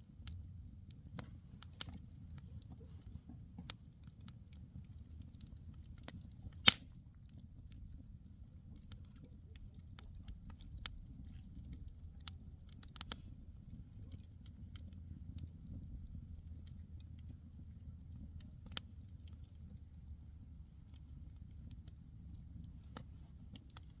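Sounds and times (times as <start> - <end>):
low rumble of flames: 0.0 - 24.0
wood crackling with pops: 0.0 - 24.0.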